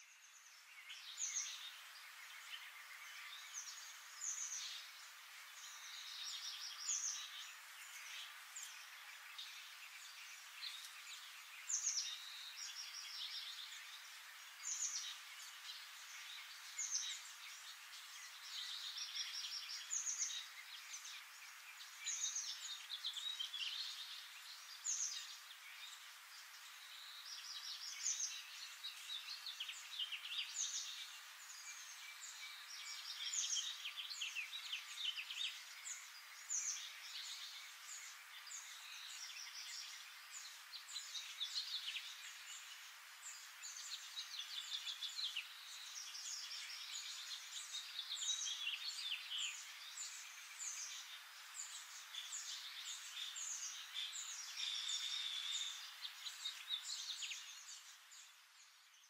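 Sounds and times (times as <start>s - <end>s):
outdoor hiss: 0.0s - 59.0s.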